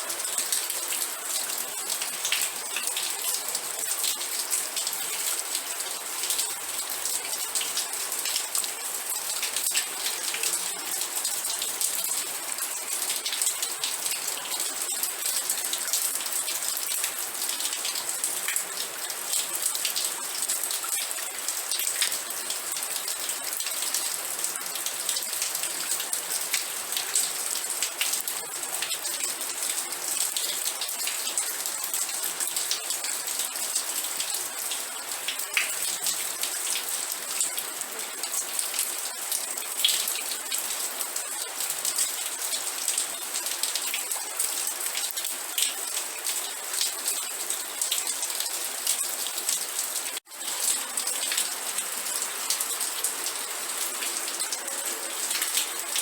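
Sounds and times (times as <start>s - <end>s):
steady rain falling: 0.0s - 56.0s
raindrops ticking on surface: 6.2s - 56.0s.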